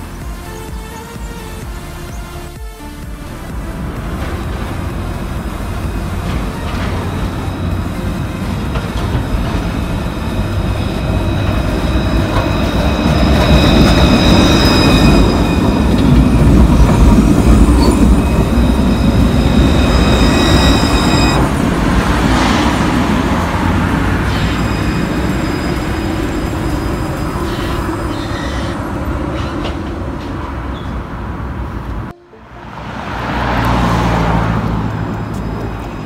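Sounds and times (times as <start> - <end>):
high-pitched squeal: 0.0 - 31.2, 32.1 - 36.0
tram wheels rumbling on rails: 0.0 - 36.0.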